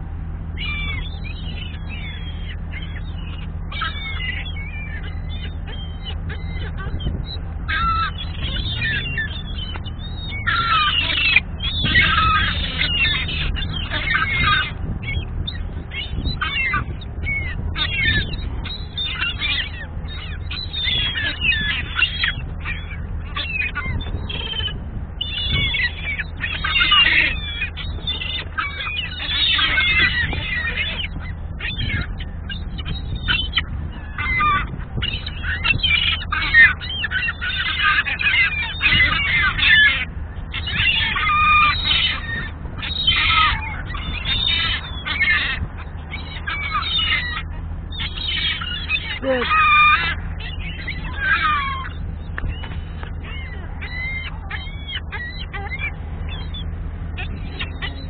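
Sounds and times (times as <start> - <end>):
gulls calling: 0.0 - 58.0.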